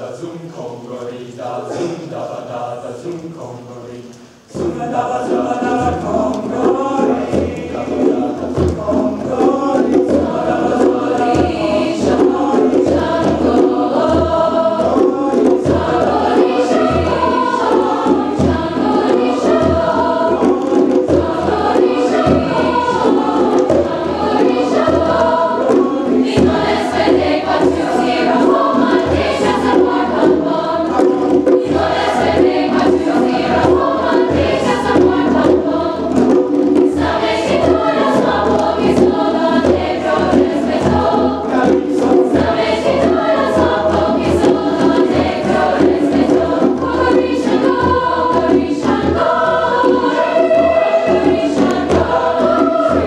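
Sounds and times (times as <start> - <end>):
mixed choir singing: 0.0 - 3.9, 4.5 - 53.0
conga drums beating: 4.5 - 53.0.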